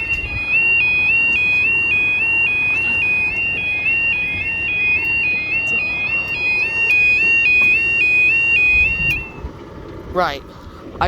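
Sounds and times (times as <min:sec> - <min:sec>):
level crossing alarm two-tone yodel: 0:00.0 - 0:09.5.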